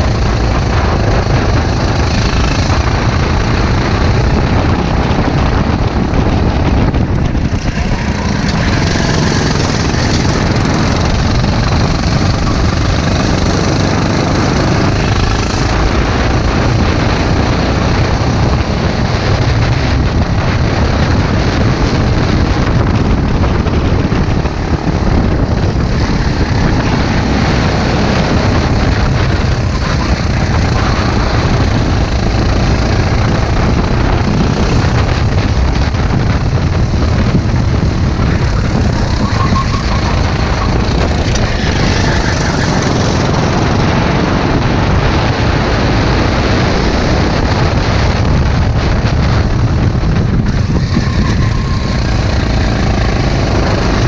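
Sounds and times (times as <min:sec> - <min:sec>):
go-kart engine droning: 0:00.0 - 0:54.0.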